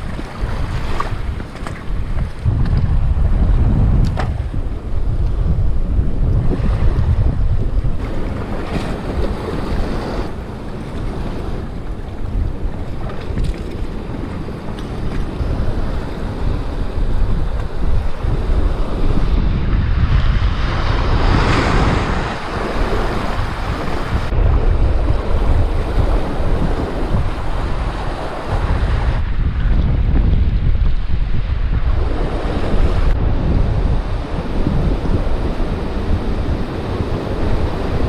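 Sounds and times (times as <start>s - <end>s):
surf washing against rocks: 0.0s - 38.0s
wave breaking over rocks: 0.0s - 38.0s
wind buffeting microphone: 0.0s - 38.0s.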